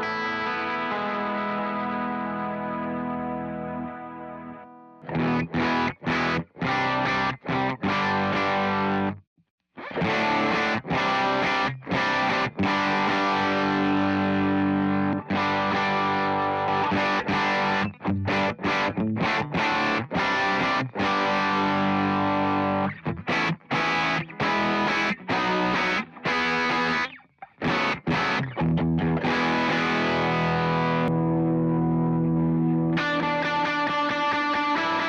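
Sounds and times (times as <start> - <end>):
distorted electric guitar chords: 0.0 - 9.2, 9.8 - 35.0.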